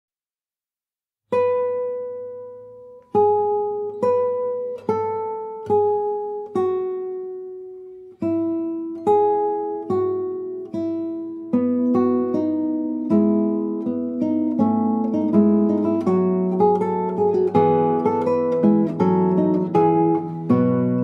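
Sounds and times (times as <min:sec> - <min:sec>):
plucked acoustic guitar chords: 0:01.3 - 0:21.0.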